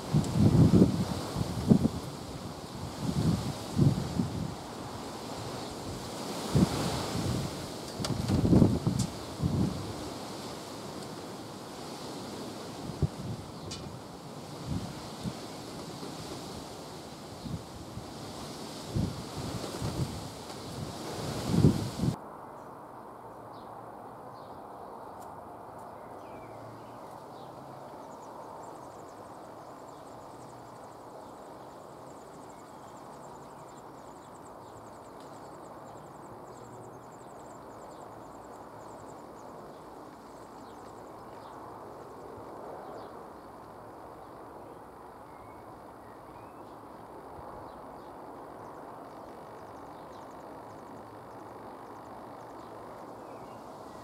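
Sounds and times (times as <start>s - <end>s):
outdoor hiss and rumble: 0.0s - 54.0s.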